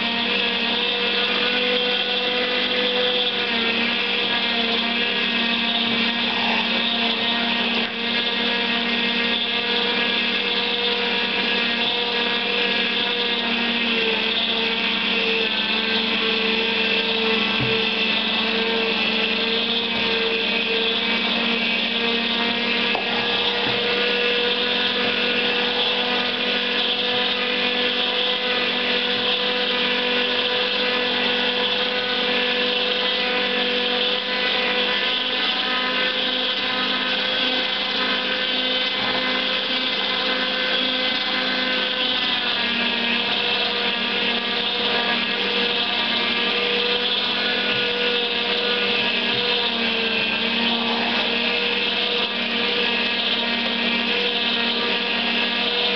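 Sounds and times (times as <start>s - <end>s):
juicer motor humming: 0.0s - 55.9s.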